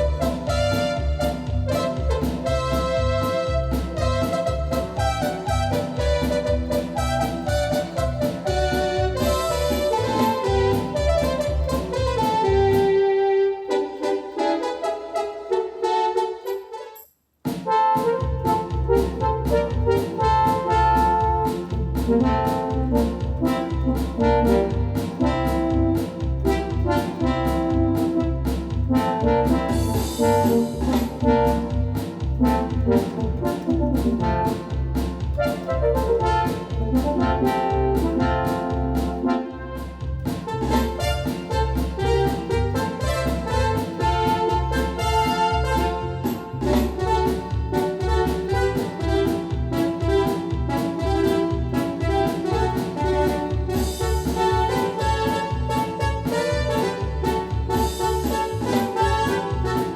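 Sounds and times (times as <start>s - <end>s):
pulsing bass line: 0.0s - 12.9s, 18.2s - 59.9s
steady beat: 0.0s - 15.9s, 17.5s - 59.9s
synthesizer notes and chords: 0.0s - 59.9s.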